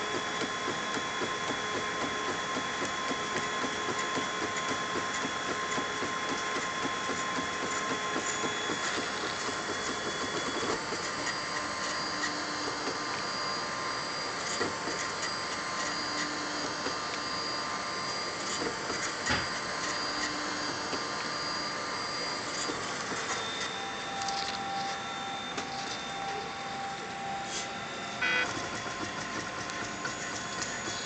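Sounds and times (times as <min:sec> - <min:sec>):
mechanical whir: 0:00.0 - 0:31.0
stepper motors humming: 0:00.0 - 0:31.0.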